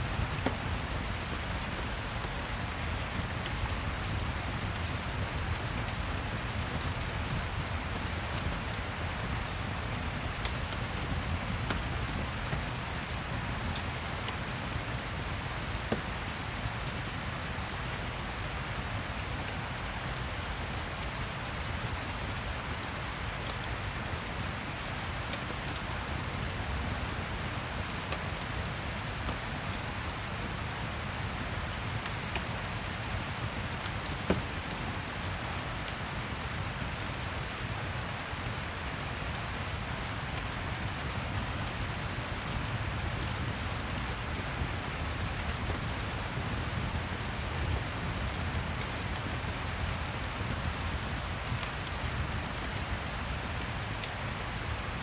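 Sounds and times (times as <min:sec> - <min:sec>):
steady rain: 0:00.0 - 0:55.0
fireplace crackling and popping: 0:00.1 - 0:55.0.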